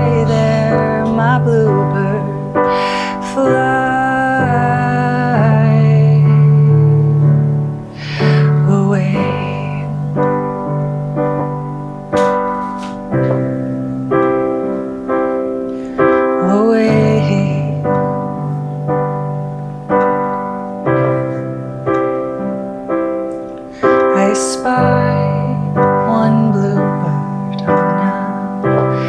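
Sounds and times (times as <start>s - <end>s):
slow piano chords: 0.0s - 29.0s.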